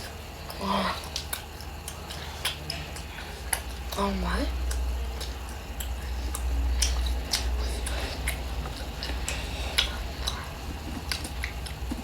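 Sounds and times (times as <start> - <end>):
person chewing food: 0.0 - 12.0
steady low hum: 0.0 - 12.0
wet mouth clicks and smacks: 1.0 - 3.9, 4.6 - 12.0.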